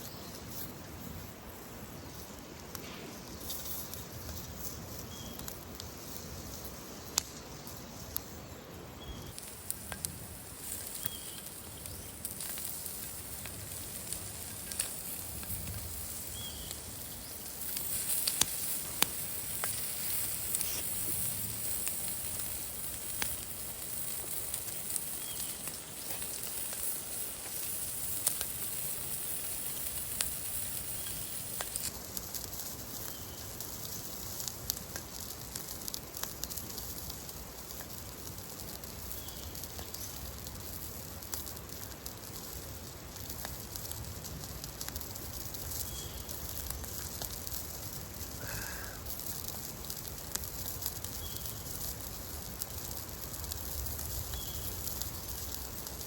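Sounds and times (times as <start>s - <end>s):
campfire crackling: 0.0s - 56.0s
fire hissing: 0.0s - 56.0s
sharp pops of fire: 0.1s - 56.0s.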